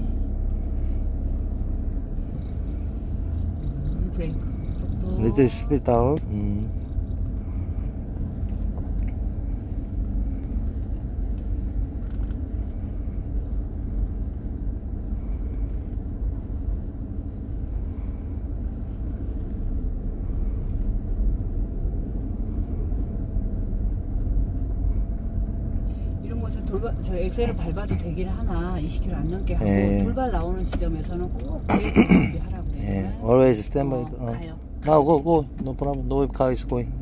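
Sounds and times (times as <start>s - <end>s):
car engine rumble: 0.0s - 37.0s
road noise: 0.0s - 37.0s.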